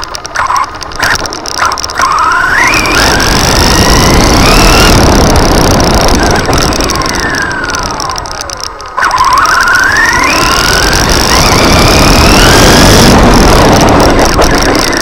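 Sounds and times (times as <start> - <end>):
tyre road noise: 0.0 - 15.0
electric motor whining: 1.9 - 15.0.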